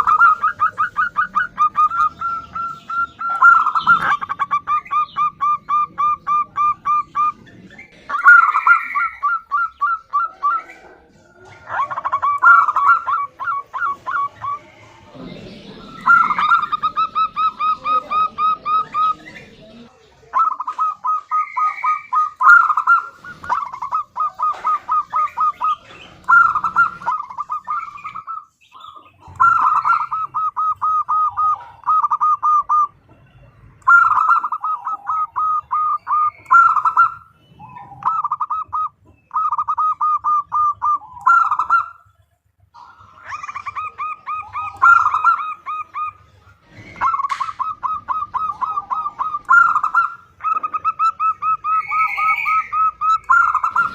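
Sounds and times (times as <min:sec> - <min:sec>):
dove calling in staccato notes: 0:00.0 - 0:53.9.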